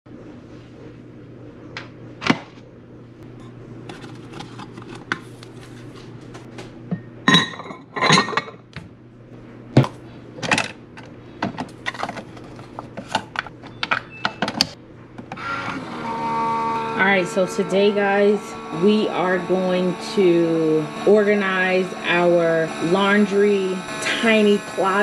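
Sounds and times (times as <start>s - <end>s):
low steady hum: 0.1s - 25.0s.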